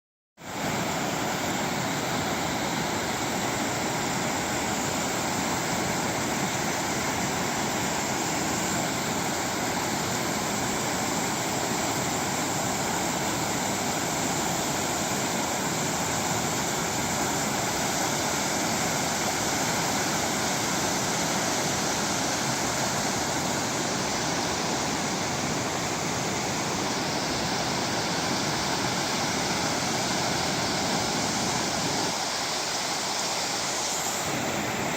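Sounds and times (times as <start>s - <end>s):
flooded creek rushing: 0.4s - 34.9s.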